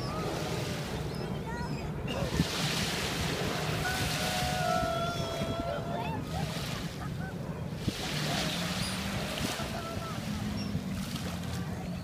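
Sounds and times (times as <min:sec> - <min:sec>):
gulls calling: 0:00.0 - 0:02.7, 0:03.4 - 0:11.0
small waves breaking: 0:00.0 - 0:12.0.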